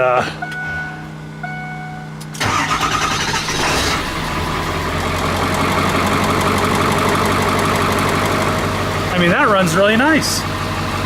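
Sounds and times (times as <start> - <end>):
diesel engine cranking and idling: 0.0 - 11.0.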